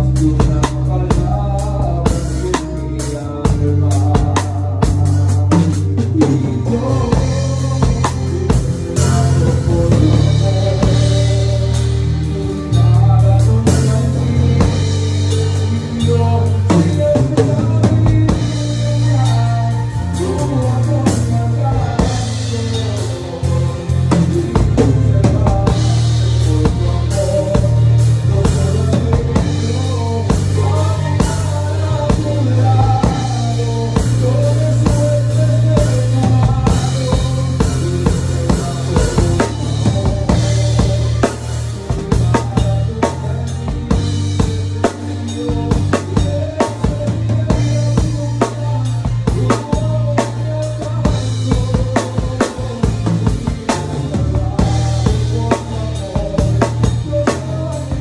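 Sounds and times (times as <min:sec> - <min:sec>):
drum and cymbal hits: 0:00.0 - 0:58.0
recorded song with bass and melody: 0:00.0 - 0:58.0.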